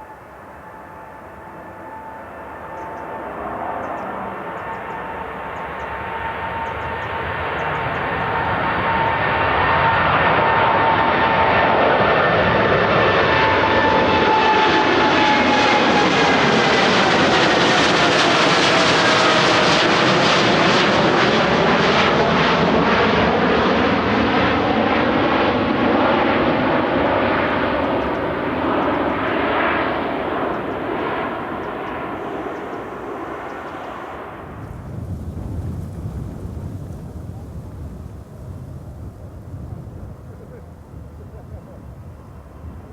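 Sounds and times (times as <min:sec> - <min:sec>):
jet airliner passing: 0:00.0 - 0:42.9.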